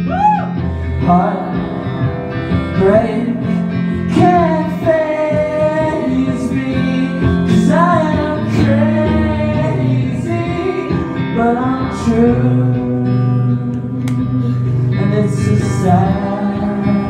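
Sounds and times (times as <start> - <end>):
electric guitar: 0.0 - 17.0
live rock band: 0.0 - 17.0
man singing: 0.8 - 17.0.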